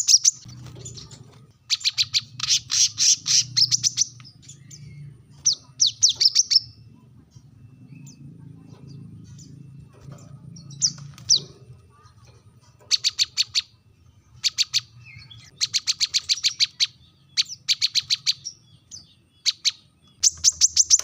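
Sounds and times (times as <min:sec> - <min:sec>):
high bird chirps: 0:00.0 - 0:21.0.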